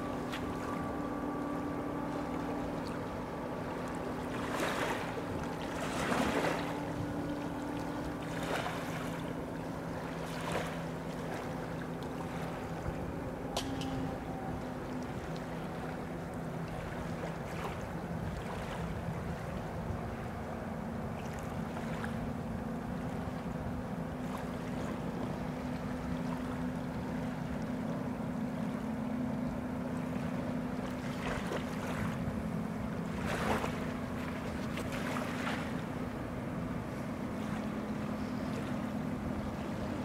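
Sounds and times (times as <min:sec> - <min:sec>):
distant ferry engines humming: 0:00.0 - 0:40.0
small waves lapping shore: 0:00.0 - 0:40.0.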